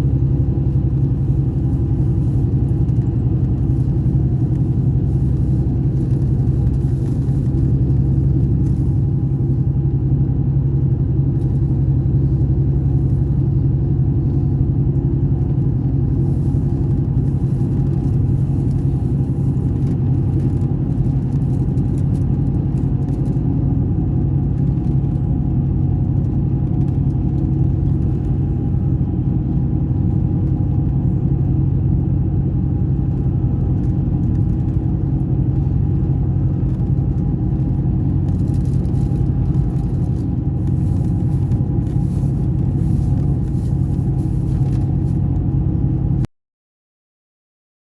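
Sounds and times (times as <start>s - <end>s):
diesel engine running: 0.0s - 46.3s.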